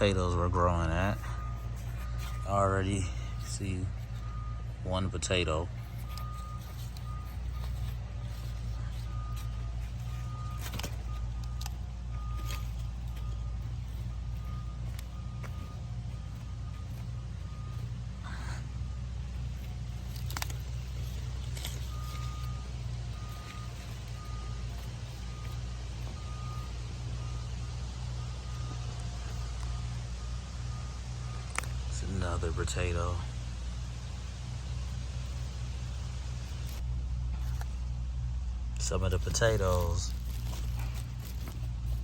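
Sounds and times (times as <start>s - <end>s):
reversing alarm beeping: 0.0s - 36.8s
low engine rumble: 0.0s - 42.0s.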